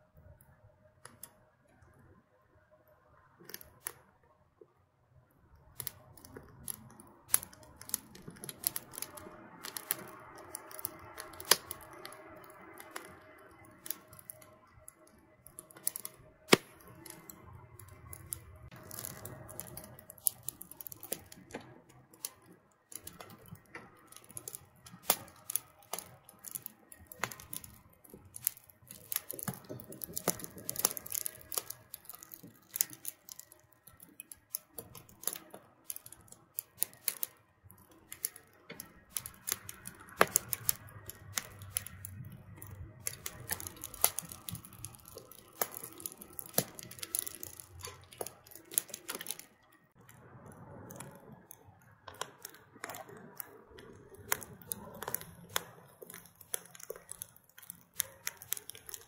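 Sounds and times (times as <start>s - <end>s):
wood fire crackling and popping: 0.0s - 2.2s, 3.3s - 4.7s, 5.3s - 59.0s
loud wood snaps: 5.7s - 49.7s, 52.1s - 59.0s.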